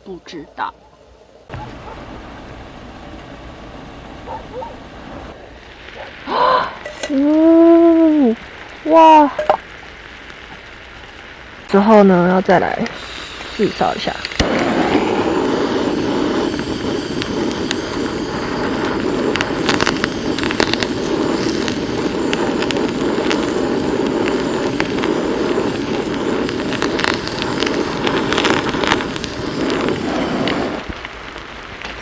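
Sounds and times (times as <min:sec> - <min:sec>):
flame rushing: 0:01.1 - 0:32.0
pan sizzling and crackling: 0:05.3 - 0:32.0.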